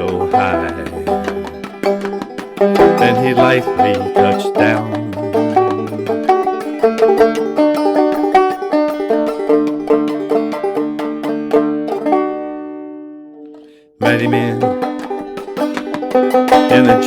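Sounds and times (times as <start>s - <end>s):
banjo plucked clawhammer style: 0.0s - 17.0s.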